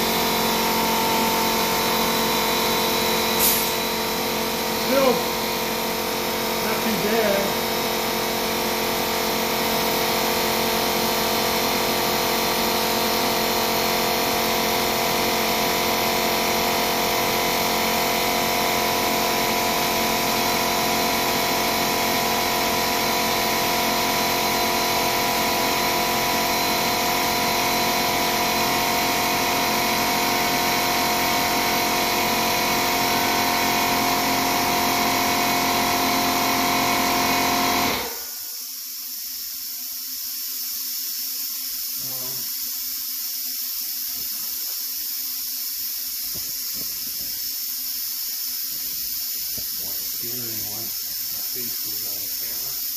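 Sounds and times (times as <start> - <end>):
air compressor running: 0.0 - 52.9.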